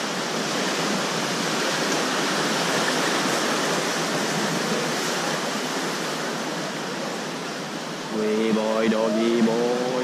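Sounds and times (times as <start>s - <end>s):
waves washing over rocks: 0.0s - 10.0s.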